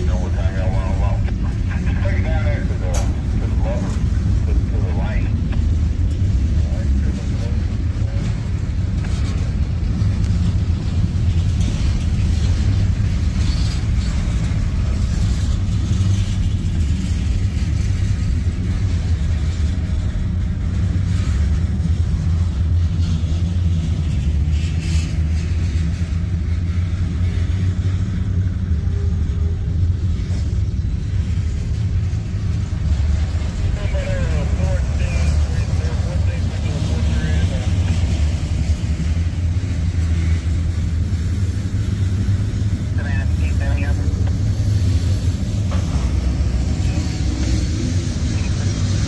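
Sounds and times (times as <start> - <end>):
freight train wheels rumbling: 0.0 - 49.0.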